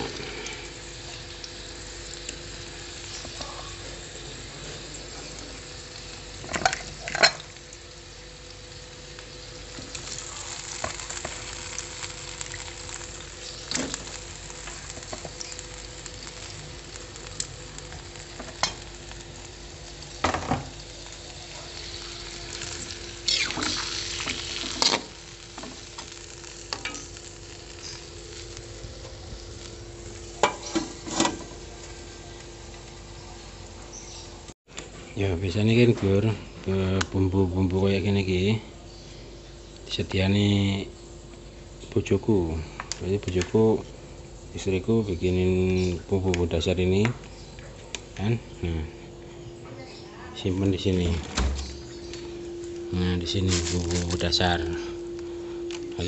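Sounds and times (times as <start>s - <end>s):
fish sizzling in a wok: 0.0s - 47.5s, 51.4s - 56.0s.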